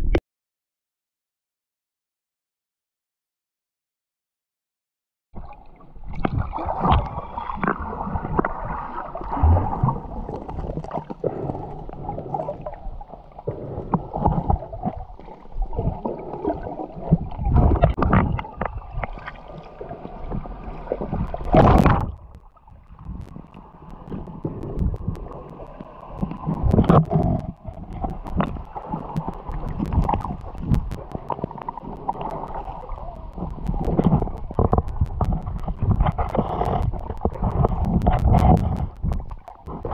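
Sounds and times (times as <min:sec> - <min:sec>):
underwater water gurgling: 0:05.4 - 0:39.9.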